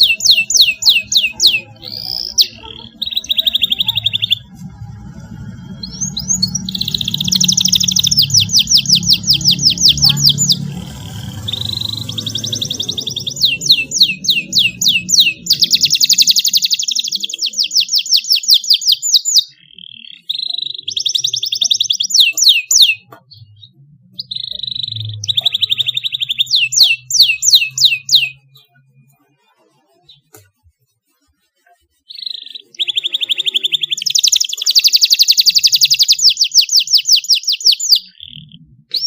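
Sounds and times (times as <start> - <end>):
canary singing trills: 0.0 - 30.4, 31.8 - 39.0.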